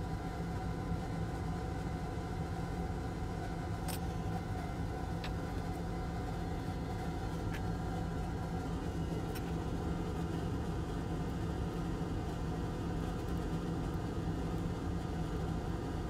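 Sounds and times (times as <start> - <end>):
machine fan humming: 1.0 - 16.0.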